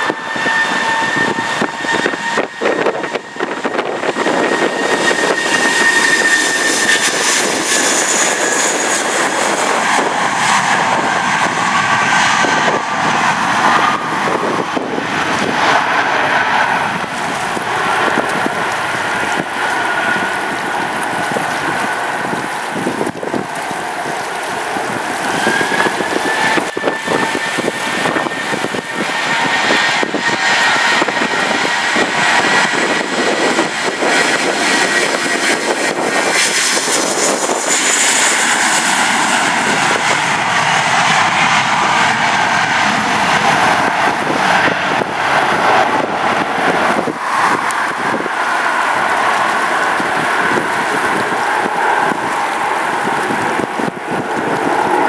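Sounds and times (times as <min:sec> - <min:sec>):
jet engines whining while taxiing: 0:00.0 - 0:55.0.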